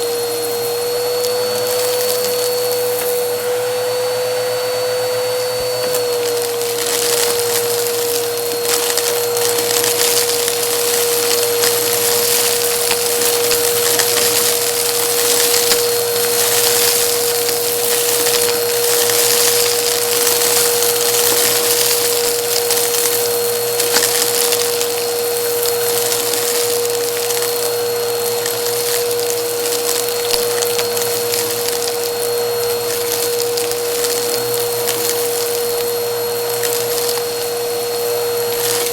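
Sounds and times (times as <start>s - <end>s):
debris crackling in vacuum: 0.0s - 38.9s
vacuum cleaner motor whine: 0.0s - 38.9s.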